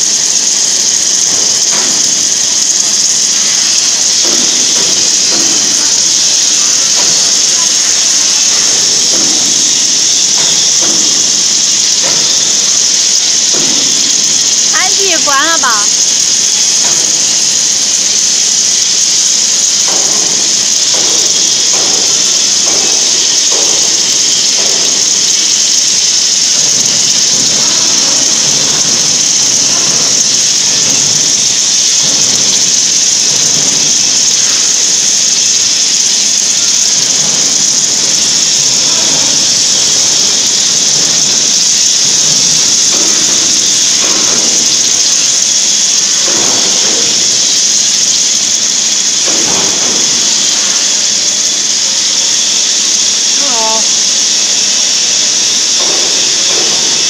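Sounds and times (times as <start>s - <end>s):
gas torch jet hissing: 0.0s - 57.0s.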